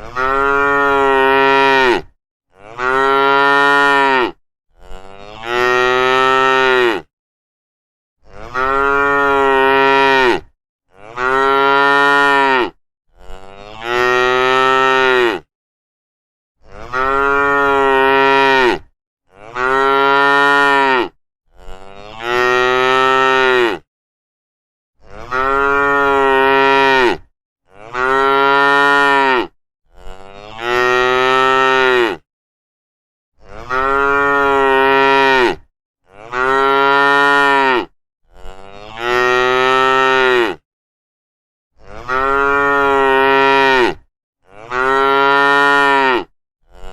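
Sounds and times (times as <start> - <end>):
cattle mooing: 0.0 - 7.1, 8.2 - 15.5, 16.8 - 23.8, 25.1 - 32.2, 33.5 - 40.6, 41.9 - 46.9.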